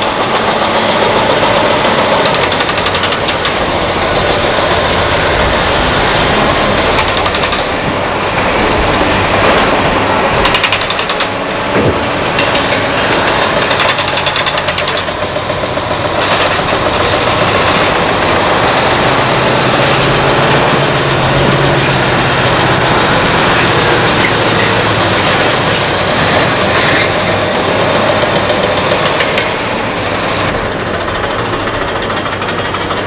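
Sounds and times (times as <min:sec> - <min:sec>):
diesel machinery and trucks running: 0:00.0 - 0:33.0.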